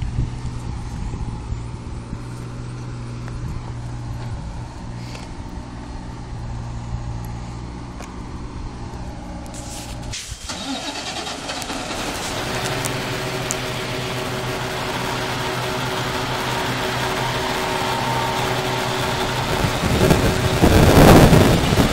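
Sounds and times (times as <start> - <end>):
diesel truck engine idling: 0.0 - 21.9
loud engine with high tone: 0.0 - 21.9.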